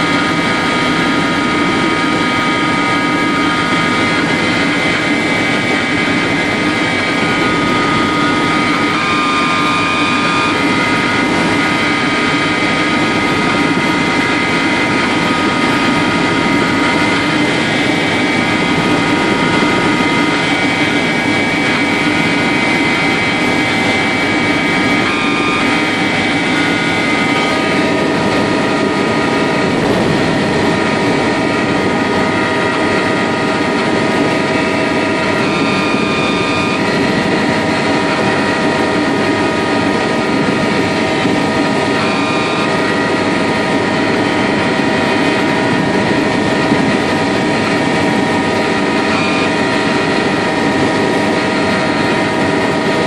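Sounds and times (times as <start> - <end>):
helicopter engine and rotor drone: 0.0 - 53.0
high whines: 0.0 - 53.0.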